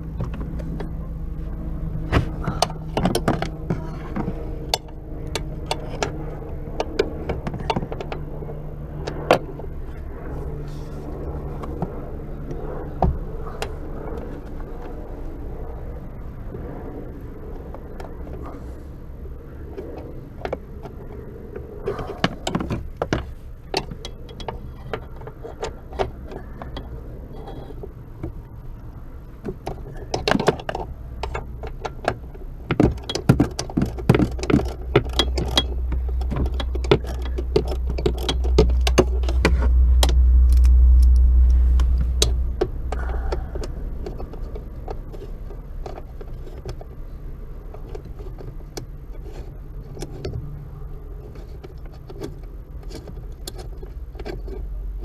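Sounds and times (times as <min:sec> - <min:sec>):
low rumble: 0:00.0 - 0:30.1, 0:33.9 - 0:55.0.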